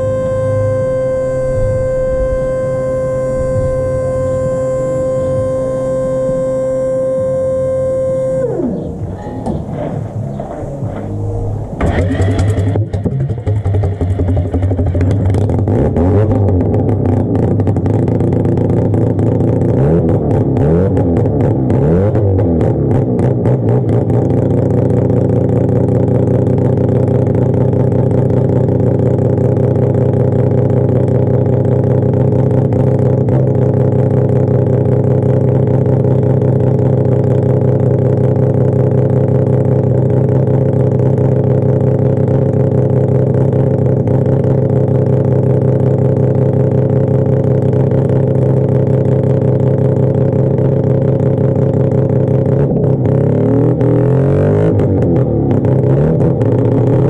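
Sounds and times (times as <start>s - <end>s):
loud rotary engine running: 0.0s - 57.0s.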